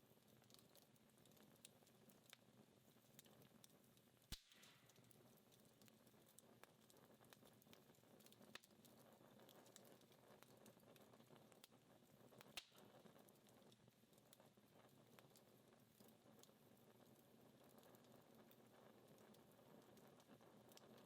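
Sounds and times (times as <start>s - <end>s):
wood fire crackling faintly: 0.0s - 21.0s
fire popping: 0.2s - 21.0s.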